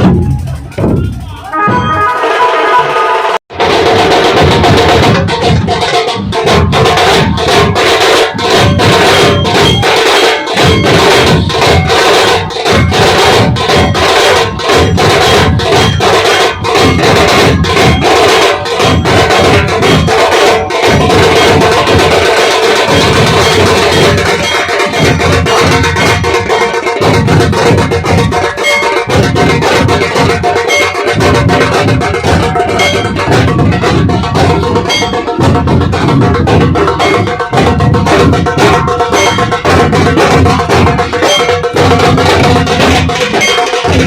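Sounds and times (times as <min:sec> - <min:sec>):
dhol drums beating: 0:00.0 - 0:44.0.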